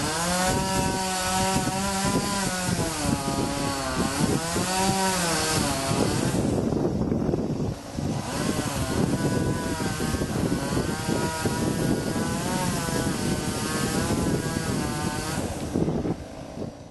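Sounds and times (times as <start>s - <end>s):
chainsaw cutting wood: 0.0s - 6.9s, 7.6s - 16.7s.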